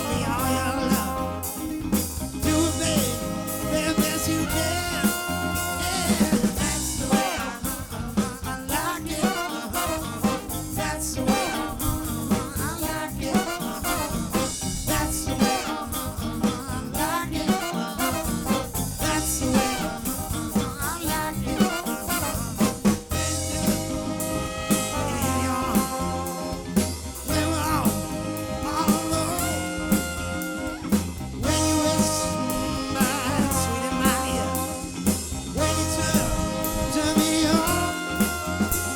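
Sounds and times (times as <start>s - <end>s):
drums steady beat: 0.0s - 38.9s
live soul band playing: 0.0s - 38.9s
person singing: 0.0s - 38.9s.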